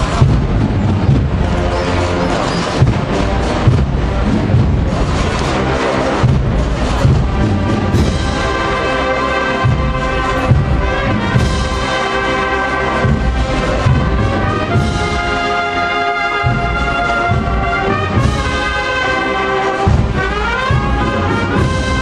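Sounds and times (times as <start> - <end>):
brass melody: 0.0 - 22.0
drum beats: 0.0 - 22.0.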